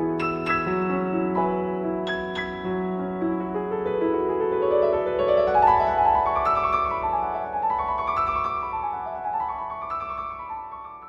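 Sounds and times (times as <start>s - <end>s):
solo piano arpeggios: 0.0s - 11.0s.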